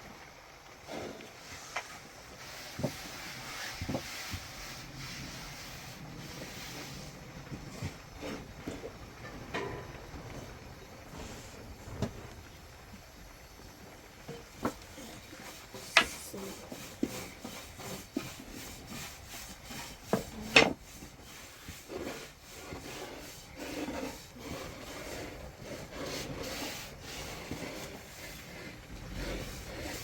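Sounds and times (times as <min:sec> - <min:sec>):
scraping or rubbing: 0:00.9 - 0:12.4, 0:14.2 - 0:30.0.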